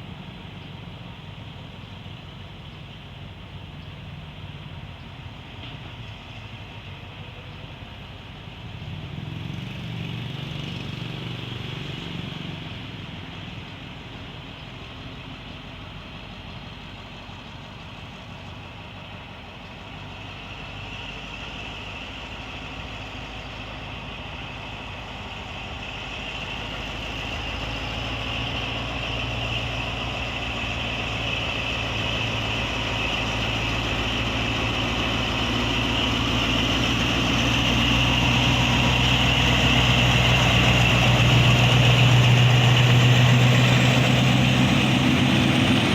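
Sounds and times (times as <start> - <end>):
diesel locomotive engine running: 0.0 - 45.9.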